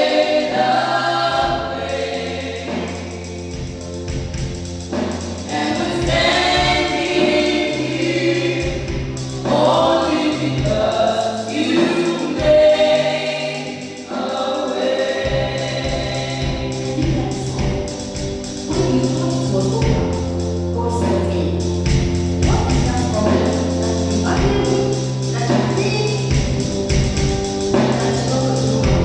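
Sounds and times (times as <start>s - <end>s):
choir singing a hymn: 0.0s - 29.0s
steady bass notes: 0.0s - 29.0s.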